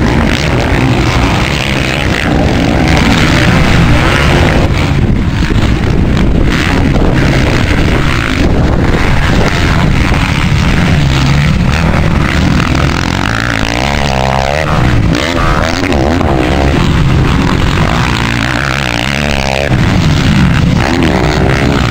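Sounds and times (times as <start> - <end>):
dirt bike engines running hard: 0.0 - 21.9
wind buffeting microphone: 0.0 - 21.9.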